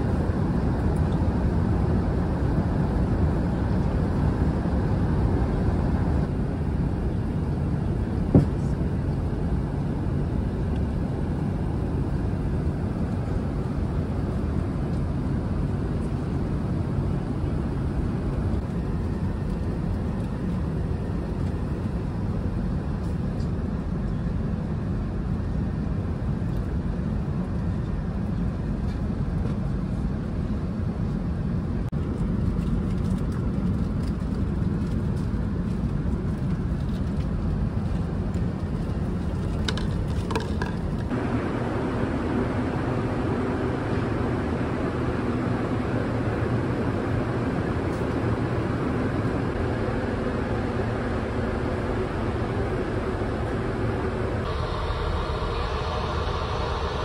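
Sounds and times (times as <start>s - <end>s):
airplane cabin engine rush: 0.0s - 57.0s.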